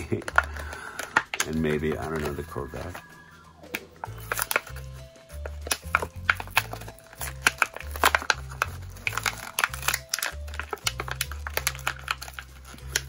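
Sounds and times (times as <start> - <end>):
card tearing clicks: 0.0 - 3.0, 3.6 - 13.0
plastic crinkling: 0.0 - 13.0.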